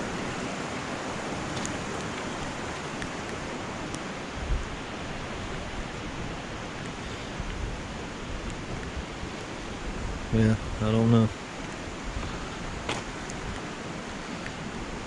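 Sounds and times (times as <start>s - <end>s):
flowing floodwater rushing: 0.0s - 15.0s.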